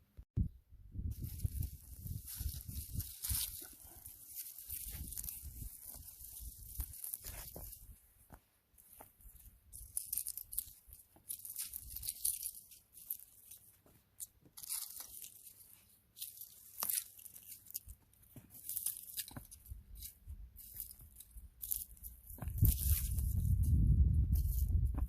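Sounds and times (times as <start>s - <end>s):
dried flowers rustling and crunching: 1.1s - 25.0s.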